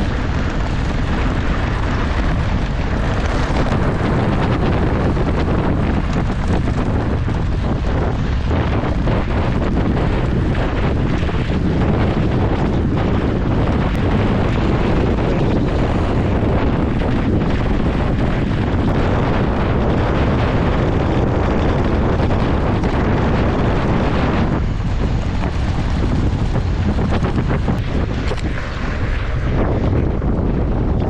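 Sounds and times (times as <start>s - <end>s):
wind buffeting a microphone: 0.0s - 31.0s.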